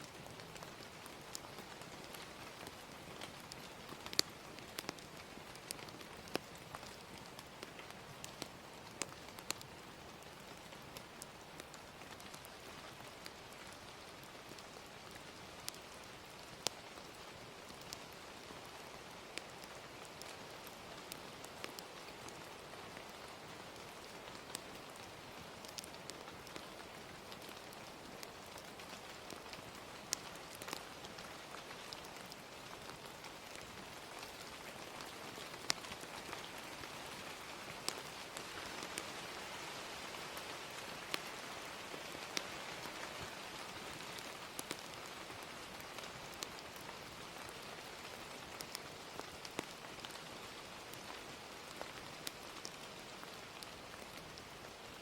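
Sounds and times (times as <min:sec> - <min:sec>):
gentle rain falling: 0:00.0 - 0:55.0
wood fire crackling: 0:00.0 - 0:55.0.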